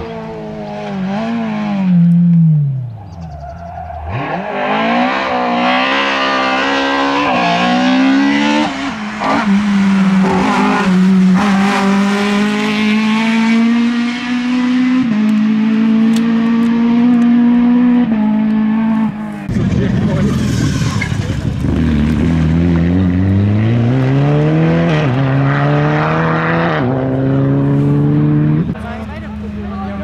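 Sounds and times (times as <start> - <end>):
rally car engine accelerating: 3.9 - 30.0.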